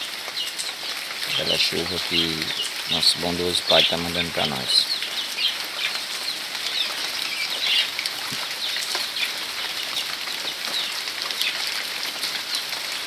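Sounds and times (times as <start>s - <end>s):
rain pattering on leaves: 0.0s - 13.0s.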